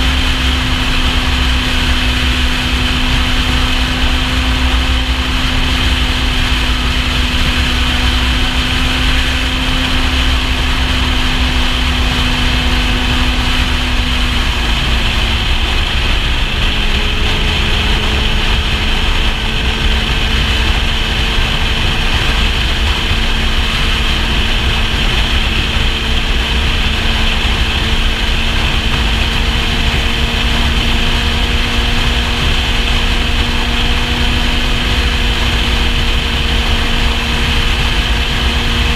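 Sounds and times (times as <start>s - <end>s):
motorcycle engine cruising: 0.0s - 38.9s
wind rumble on microphone: 0.0s - 38.9s.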